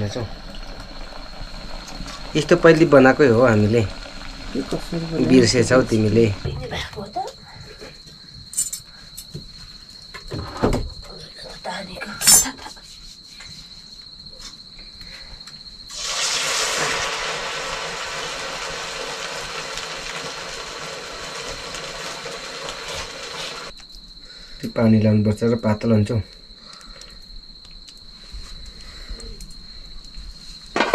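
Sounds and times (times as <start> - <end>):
steady hiss: 0.0 - 10.0, 11.4 - 30.9
cricket trilling: 0.0 - 30.9.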